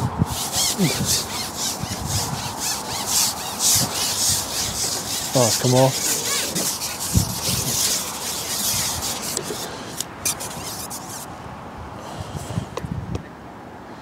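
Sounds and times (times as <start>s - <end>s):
fishing pole sections scraping: 0.0s - 11.3s.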